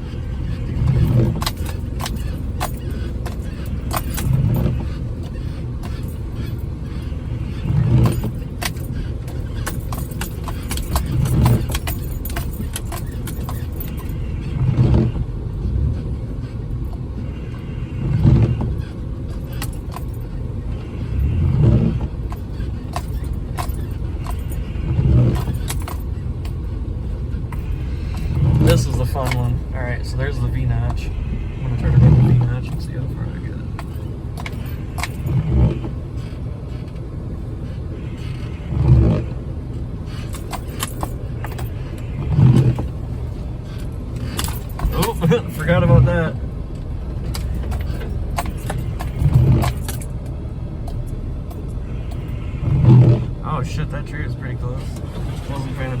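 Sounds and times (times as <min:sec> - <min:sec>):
engine and drivetrain drone: 0:00.0 - 0:56.0
rattles and clicks in car cab: 0:00.0 - 0:56.0.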